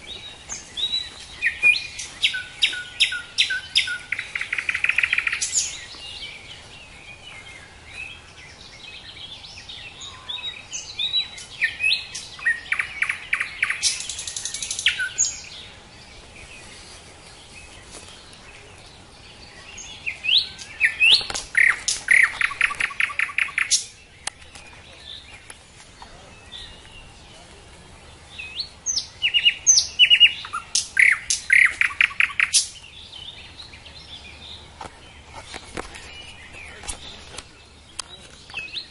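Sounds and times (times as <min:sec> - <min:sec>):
nightingale singing trills: 0:00.0 - 0:38.9.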